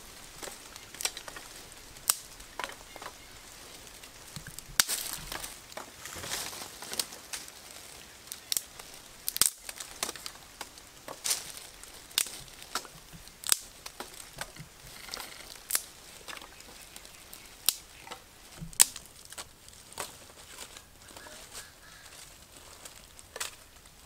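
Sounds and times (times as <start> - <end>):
rustling of dry wood and leaves: 0.0 - 24.0
sticks snapping: 0.3 - 3.3, 3.9 - 24.0.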